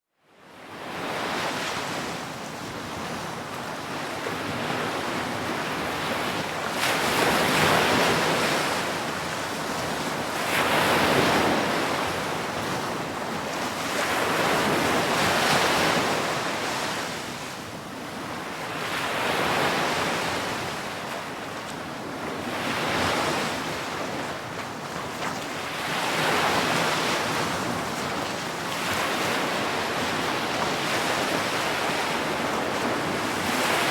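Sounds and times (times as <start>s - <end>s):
ocean waves breaking: 3.8s - 33.9s.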